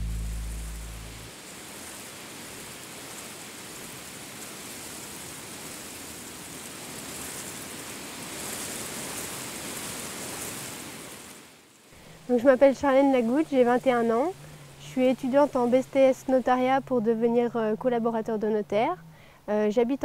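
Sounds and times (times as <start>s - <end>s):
outdoor ambience hiss: 0.0s - 20.0s.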